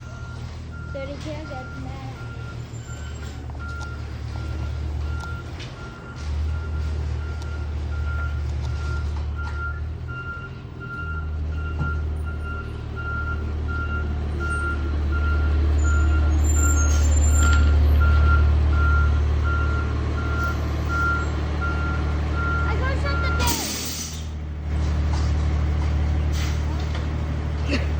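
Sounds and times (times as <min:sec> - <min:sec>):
reverse alarm beeping: 0:00.0 - 0:23.8
truck engine running: 0:00.0 - 0:27.9.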